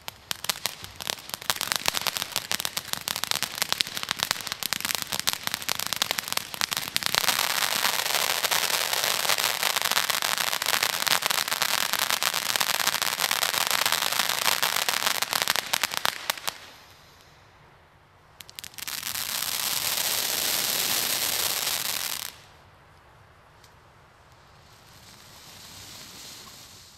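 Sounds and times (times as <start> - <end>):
firework fountain crackling hiss: 0.0 - 17.5, 18.3 - 22.6, 24.5 - 26.9.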